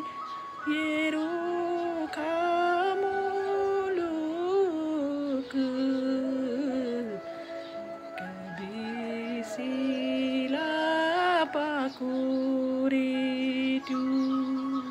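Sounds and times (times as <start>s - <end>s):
woman singing a folk song: 0.0s - 14.9s.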